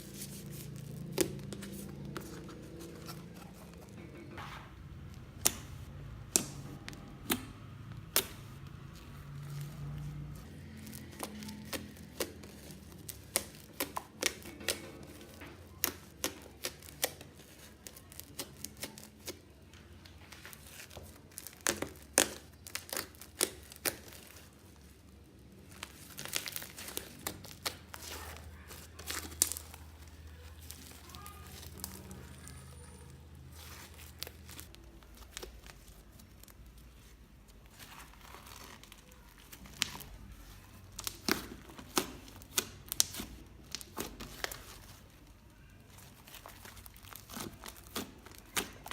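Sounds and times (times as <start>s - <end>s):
slime crackling and popping: 5.3s - 48.9s.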